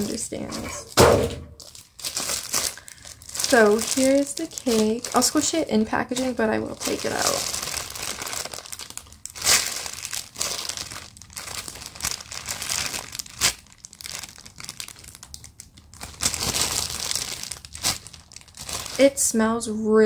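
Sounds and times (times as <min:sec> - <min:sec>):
plastic bag crinkling: 0:00.0 - 0:19.5.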